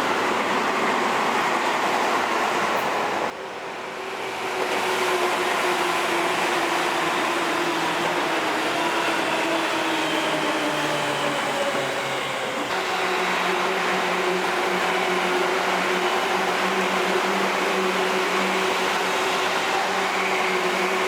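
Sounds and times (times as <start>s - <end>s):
train rushing noise: 0.0s - 21.0s
train motor whine: 4.1s - 21.0s.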